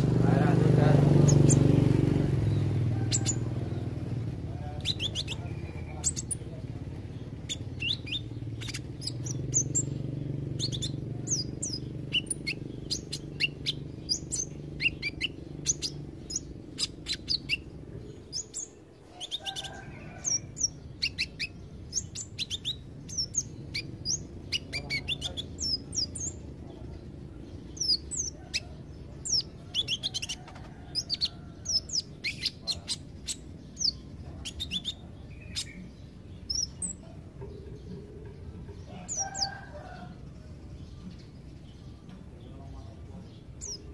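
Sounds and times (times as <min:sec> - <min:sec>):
bird singing high chirps: 0:00.0 - 0:43.9.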